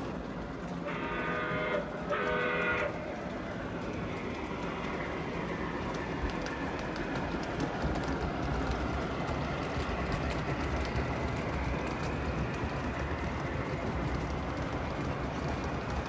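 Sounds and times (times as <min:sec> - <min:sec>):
model steam locomotive running: 0:00.0 - 0:16.0
wheels clicking on rails: 0:00.0 - 0:16.0.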